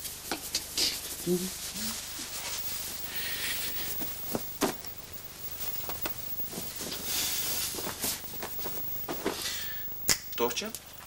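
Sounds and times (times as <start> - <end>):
soft rustles: 0.0 - 9.6
steady hiss: 0.0 - 11.0.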